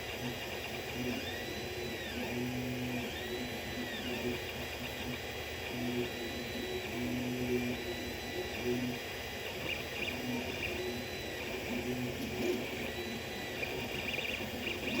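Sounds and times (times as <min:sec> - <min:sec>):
steady hum: 0:00.0 - 0:15.0
stepper motors singing tones: 0:00.3 - 0:15.0.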